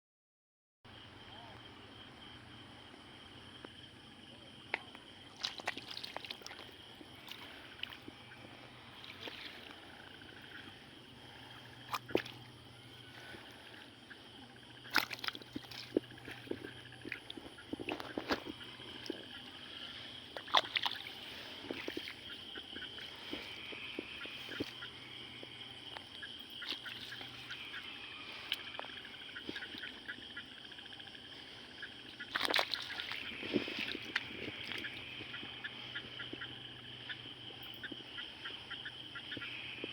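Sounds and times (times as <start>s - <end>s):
night insects droning: 0.9s - 39.9s
water sloshing and splashing: 4.6s - 39.9s.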